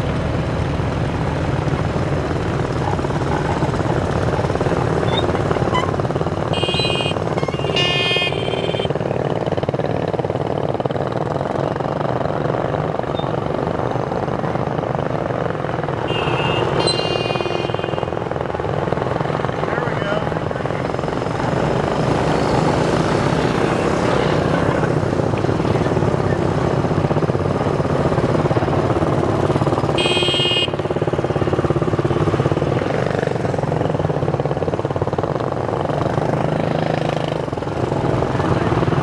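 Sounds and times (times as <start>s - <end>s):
motorbikes riding past: 0.0s - 39.0s.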